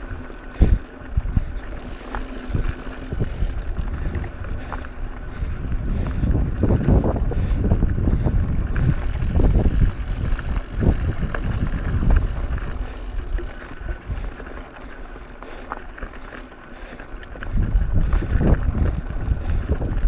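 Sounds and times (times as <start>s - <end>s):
bicycle rolling over rocky trail: 0.0s - 20.0s
wind rumbling on microphone: 0.0s - 20.0s.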